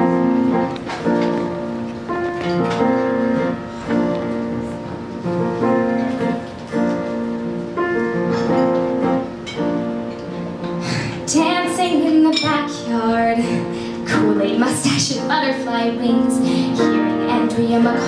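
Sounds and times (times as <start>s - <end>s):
piano playing slow chords: 0.0s - 18.0s.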